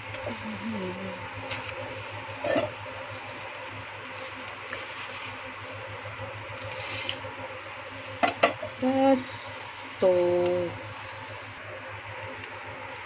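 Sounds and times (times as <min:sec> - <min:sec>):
water bubbling in a pot: 0:00.0 - 0:13.0.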